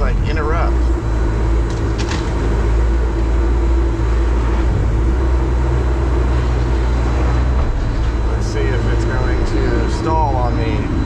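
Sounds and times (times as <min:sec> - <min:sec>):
baler engine droning: 0:00.0 - 0:11.0.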